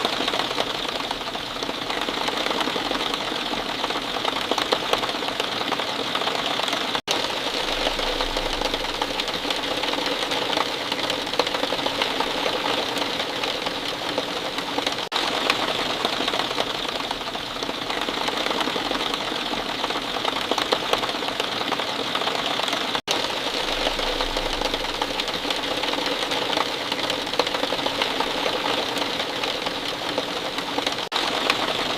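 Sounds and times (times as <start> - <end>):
rain pattering: 0.0 - 31.9.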